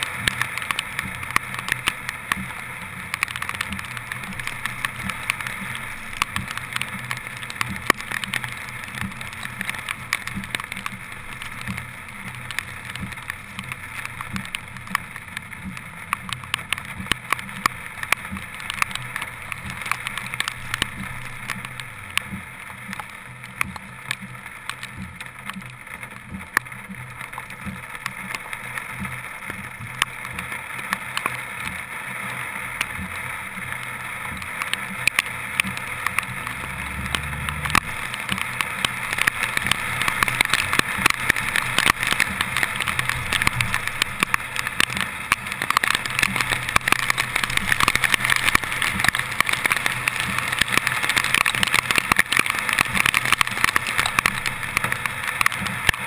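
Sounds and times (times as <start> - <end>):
raindrops ticking on camera housing: 0.0 - 56.0
tyres on wet road: 0.0 - 56.0.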